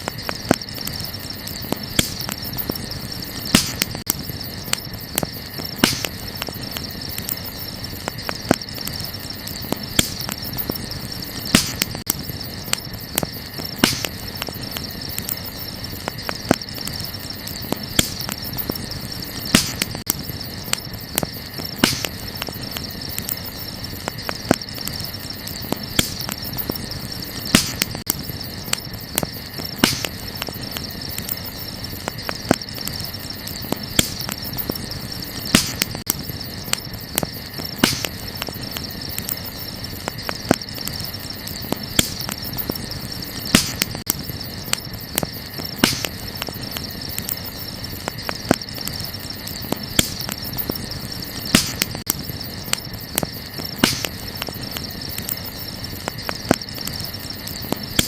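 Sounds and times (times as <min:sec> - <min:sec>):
campfire crackling and popping: 0:00.0 - 0:58.0
night insects chirping: 0:00.0 - 0:58.0.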